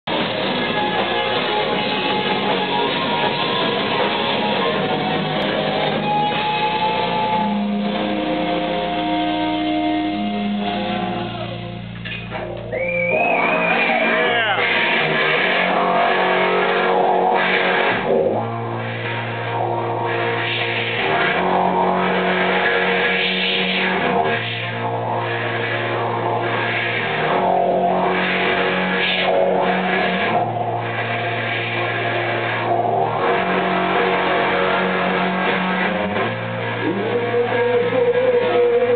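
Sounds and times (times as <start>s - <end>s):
drums and bass: 0.0s - 38.9s
electric guitar: 0.0s - 38.9s
high wavering note: 0.1s - 38.9s.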